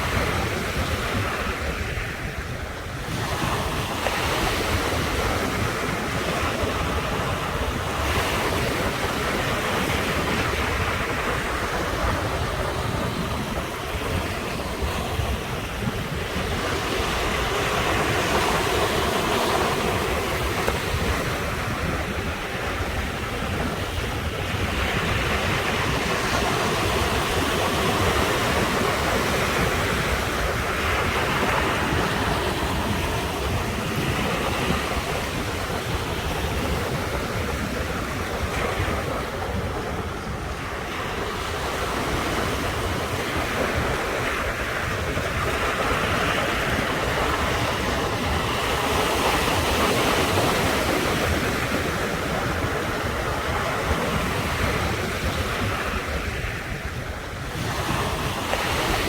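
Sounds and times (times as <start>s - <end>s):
ocean surf breaking: 0.0s - 59.0s.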